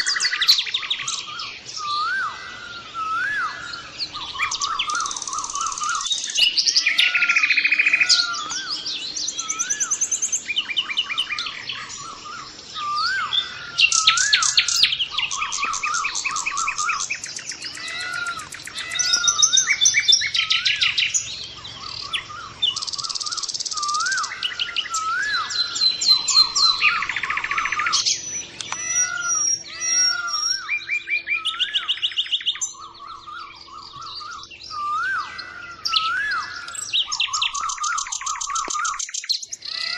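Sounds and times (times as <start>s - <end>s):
birds trilling and singing: 0.0s - 39.9s
rising and falling bird whistle: 0.0s - 39.9s.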